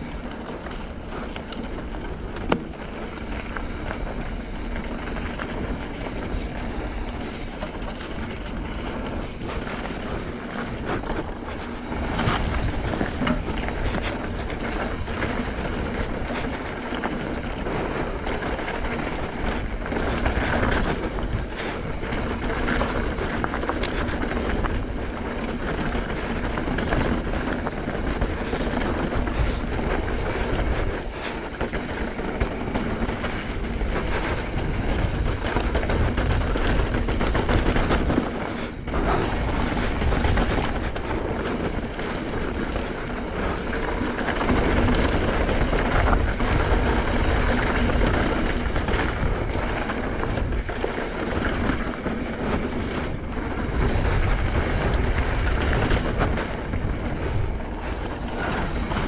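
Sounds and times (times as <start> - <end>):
bike rattling over bumps: 0.0 - 59.0
bike tyres rumbling on dirt: 0.0 - 59.0
wind: 0.0 - 59.0.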